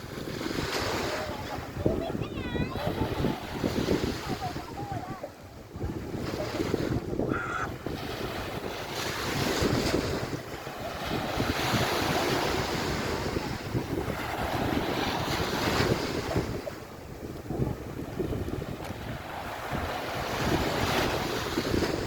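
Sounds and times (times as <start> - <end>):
sea waves washing on beach: 0.0 - 22.0
wind buffeting microphone: 0.0 - 22.0.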